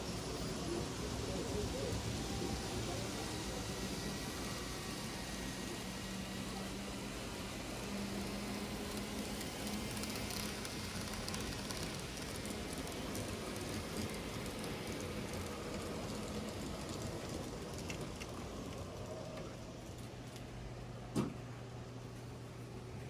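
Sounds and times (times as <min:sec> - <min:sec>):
model train wheels rattling on rail: 0:00.0 - 0:20.5.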